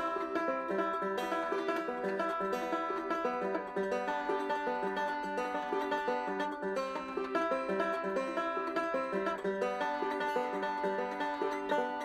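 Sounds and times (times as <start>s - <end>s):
bluegrass banjo music: 0.0s - 12.0s.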